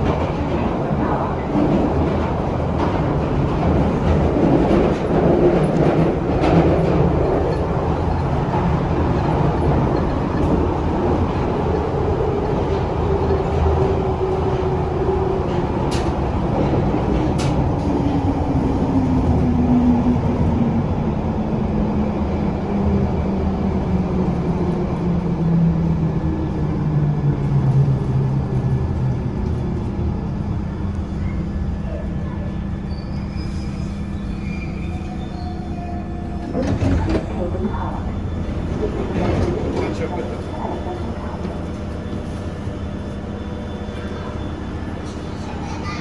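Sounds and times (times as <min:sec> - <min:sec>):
wheels rumbling on rail: 0:00.0 - 0:46.0.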